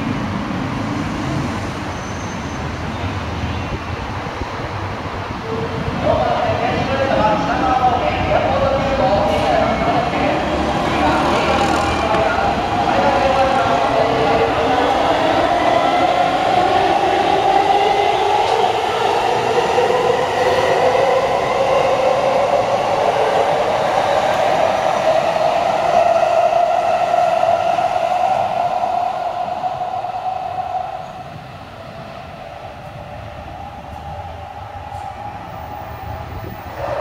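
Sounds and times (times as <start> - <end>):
train wheels rumbling: 3.7 - 37.0.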